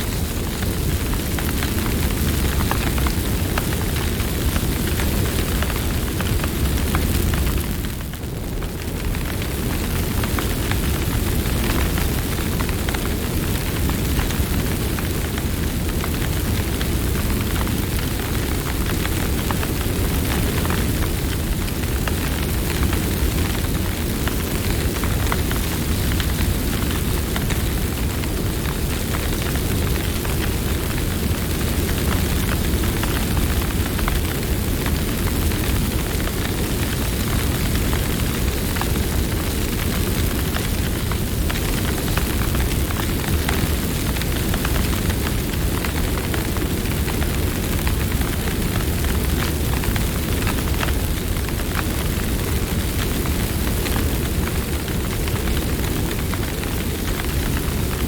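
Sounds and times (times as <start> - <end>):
burning wood crackling and popping: 0.0 - 58.0
low rumble of flames: 0.0 - 58.0.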